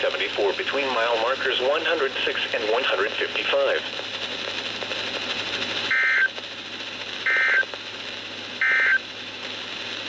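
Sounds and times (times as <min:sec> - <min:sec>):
radio hiss: 0:00.0 - 0:10.0.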